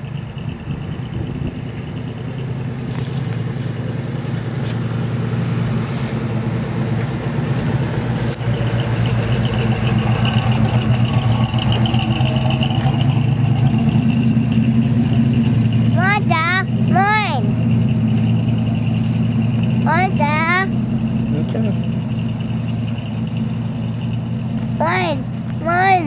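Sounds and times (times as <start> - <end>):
pickup truck engine passing: 0.0 - 26.0.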